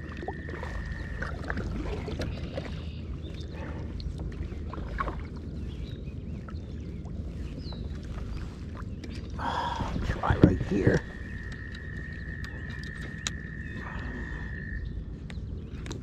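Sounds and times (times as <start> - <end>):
paddle swishing through water: 0.0 - 14.4
steady low rumble: 0.0 - 16.0.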